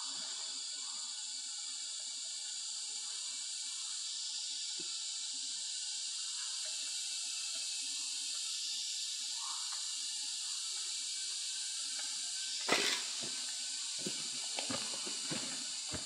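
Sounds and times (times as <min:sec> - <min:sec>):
high hiss of forest ambience: 0:00.0 - 0:16.0.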